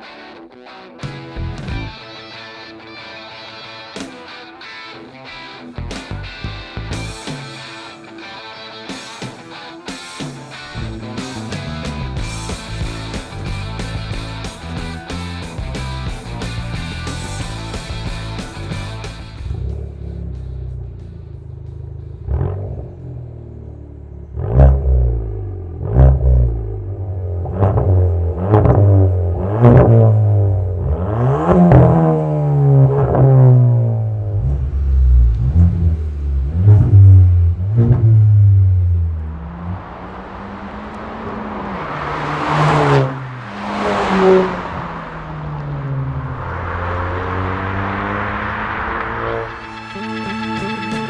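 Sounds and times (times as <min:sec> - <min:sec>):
car engine idling and revving: 0:05.8 - 0:07.5, 0:10.6 - 0:51.0.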